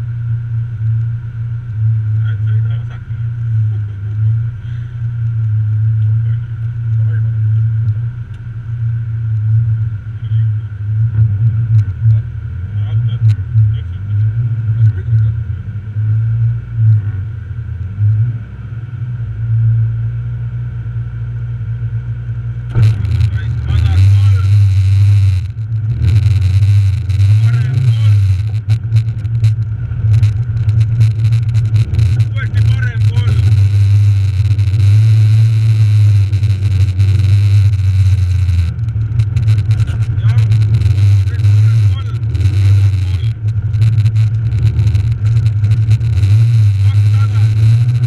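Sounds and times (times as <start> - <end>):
car engine idling: 0.0 - 48.0
road noise: 0.0 - 48.0.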